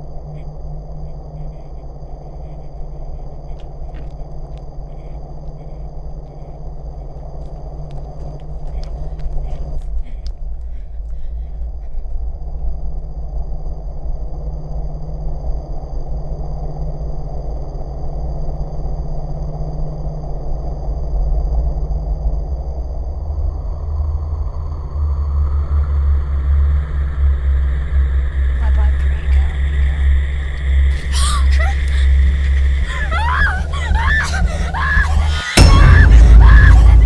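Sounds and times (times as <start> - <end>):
low rumbling drone: 0.0 - 37.0.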